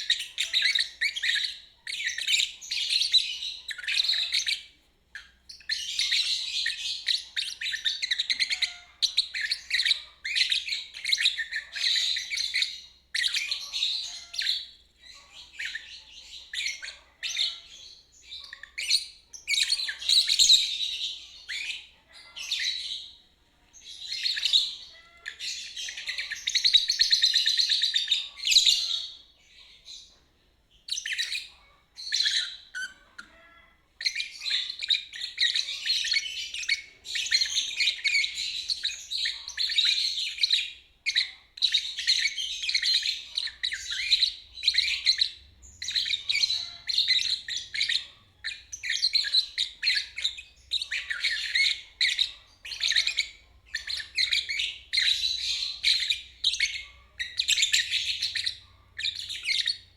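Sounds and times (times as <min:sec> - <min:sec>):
lovebird chattering song: 0:00.0 - 0:30.1, 0:30.7 - 0:59.9.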